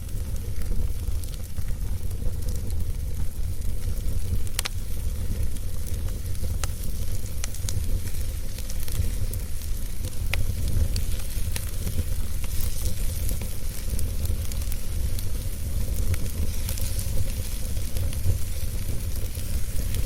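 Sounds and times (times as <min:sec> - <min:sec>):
fire pops and crackles: 0:00.0 - 0:20.0
wood fire rumble and hiss: 0:00.0 - 0:20.0.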